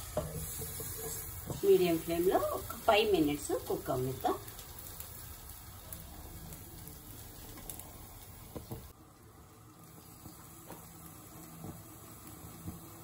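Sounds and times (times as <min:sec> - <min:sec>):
liver sizzling in a covered pan: 0:00.0 - 0:13.0.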